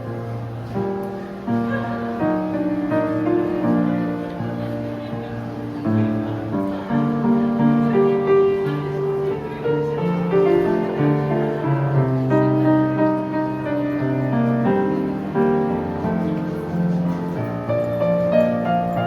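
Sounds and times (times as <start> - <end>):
solo piano: 0.0 - 19.0.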